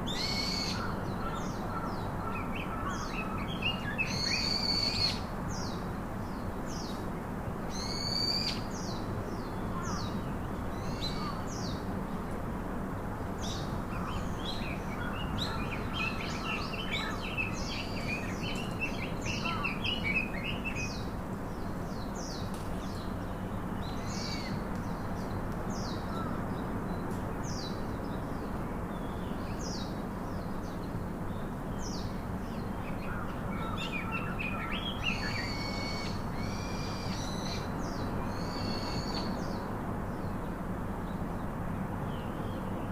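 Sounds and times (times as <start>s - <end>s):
wild birds chirping: 0.0s - 7.0s, 13.4s - 41.5s
steady low background hiss: 0.0s - 42.9s.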